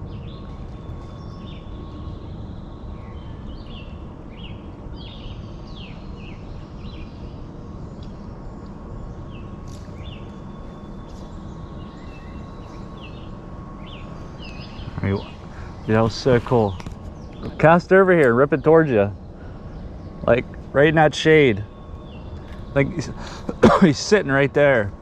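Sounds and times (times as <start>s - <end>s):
low outdoor background rush: 0.0s - 25.0s
songbirds chirping: 0.0s - 25.0s.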